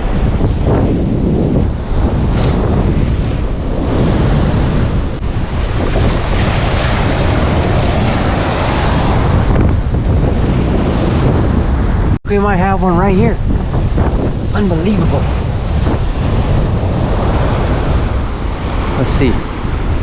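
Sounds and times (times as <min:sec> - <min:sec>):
breaking surf: 0:00.0 - 0:12.2, 0:13.3 - 0:20.0
wind buffeting microphone: 0:00.0 - 0:20.0.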